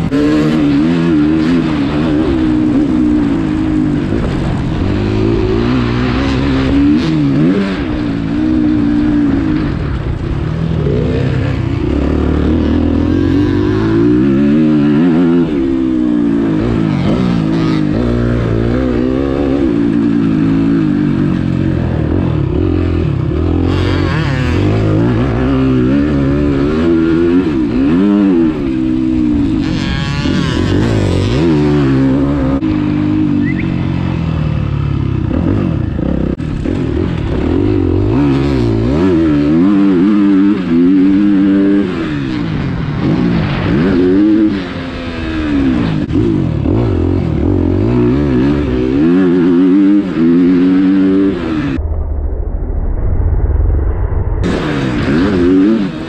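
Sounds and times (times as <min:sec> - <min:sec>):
motocross bike engine revving: 0:00.0 - 0:51.8, 0:54.4 - 0:56.0.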